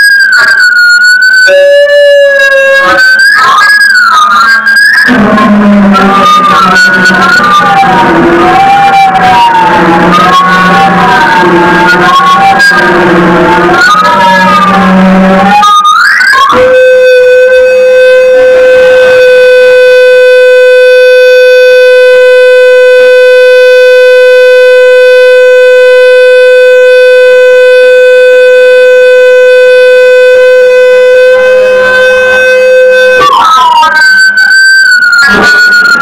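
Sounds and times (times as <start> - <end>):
electronic droning tone: 0.0 - 36.0.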